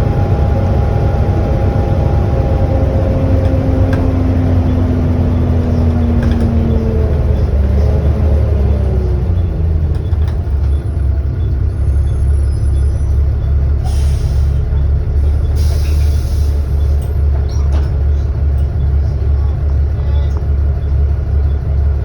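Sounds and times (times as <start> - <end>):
diesel bus engine drone: 0.0 - 22.0.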